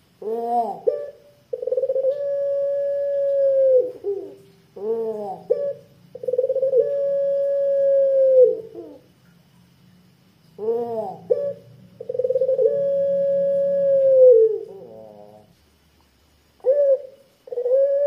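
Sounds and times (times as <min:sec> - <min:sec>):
dove cooing: 0:00.2 - 0:09.1, 0:10.6 - 0:15.6, 0:16.6 - 0:18.0.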